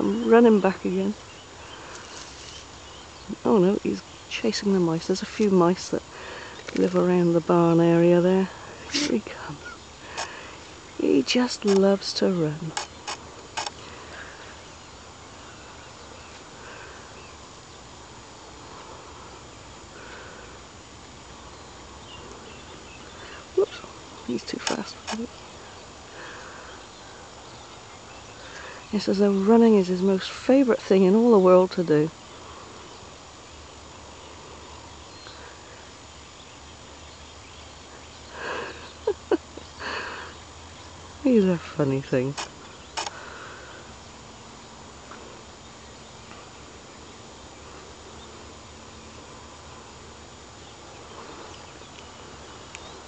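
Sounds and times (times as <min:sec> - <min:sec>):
even hiss: 0:00.0 - 0:53.0
faint outdoor background noise: 0:00.0 - 0:53.0.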